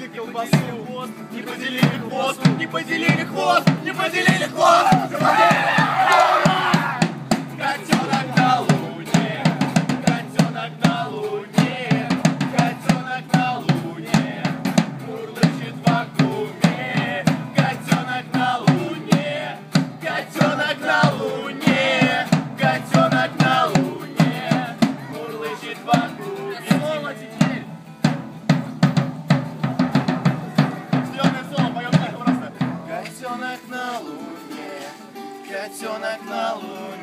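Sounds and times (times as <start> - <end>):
men singing: 0.0 - 27.8, 30.5 - 37.0
floor tom beat: 0.0 - 33.2
acoustic guitars strumming: 0.0 - 37.0.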